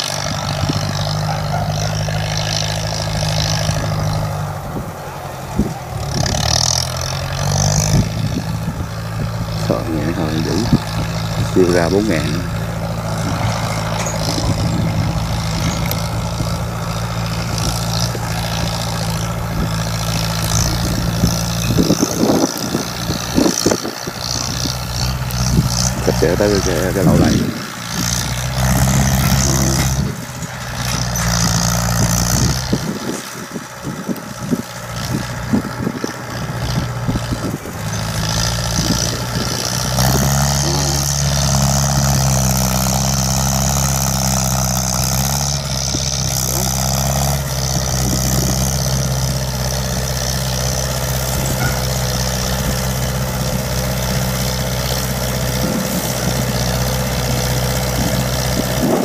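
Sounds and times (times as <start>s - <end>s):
tractor diesel engine running hard: 0.0s - 59.0s.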